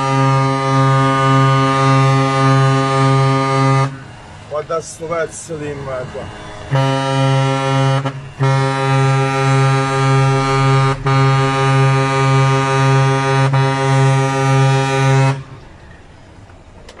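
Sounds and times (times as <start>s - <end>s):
truck air horn blaring: 0.0s - 15.6s
vehicle running noise: 0.0s - 17.0s.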